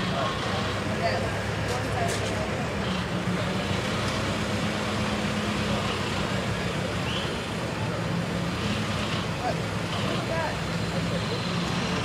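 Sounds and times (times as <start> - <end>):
diesel engine humming: 0.0 - 12.0
street traffic noise: 0.0 - 12.0.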